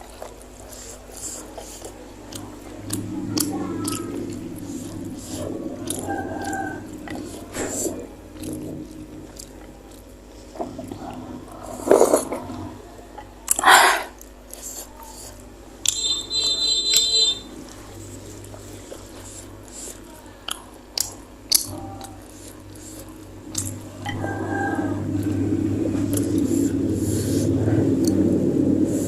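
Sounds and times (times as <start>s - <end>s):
chewing and mouth sounds: 0.0s - 29.0s.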